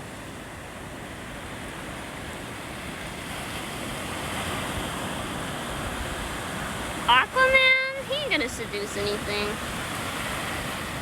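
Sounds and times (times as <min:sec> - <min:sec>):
ocean surf washing ashore: 0:00.0 - 0:11.0.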